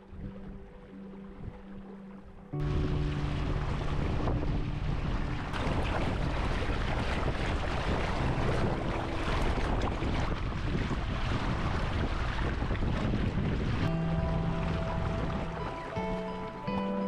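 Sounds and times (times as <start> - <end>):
wind buffeting microphone: 0.0 - 1.9, 2.5 - 16.7
water rushing along hull: 0.0 - 17.0.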